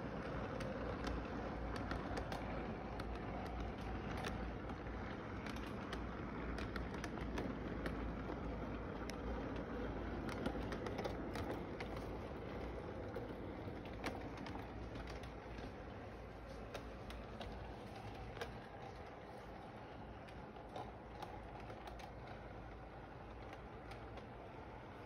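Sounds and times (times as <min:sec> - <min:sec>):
model train rumbling: 0:00.0 - 0:25.0
wheels clicking over rail joints: 0:00.0 - 0:25.0.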